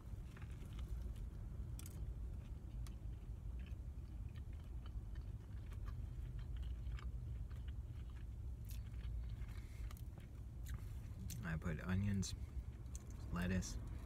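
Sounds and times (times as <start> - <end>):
person chewing with wet smacks: 0.0 - 14.0
steady low hum: 0.0 - 14.0.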